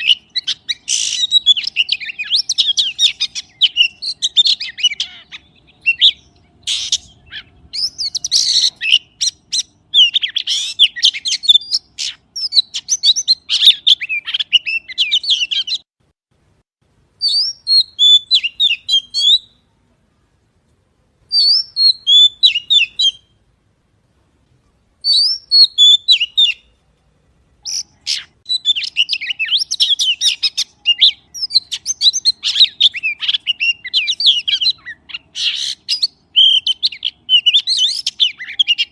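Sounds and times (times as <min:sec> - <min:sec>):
songbird twittering chirps: 0:00.0 - 0:15.9, 0:17.2 - 0:20.5, 0:21.2 - 0:23.5, 0:24.6 - 0:38.9.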